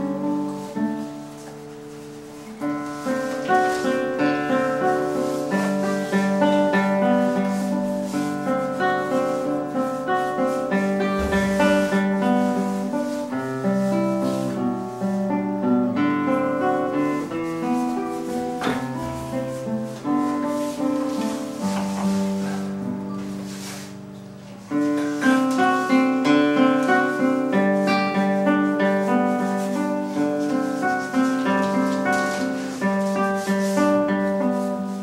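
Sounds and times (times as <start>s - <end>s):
classical guitar playing: 0.0s - 35.0s.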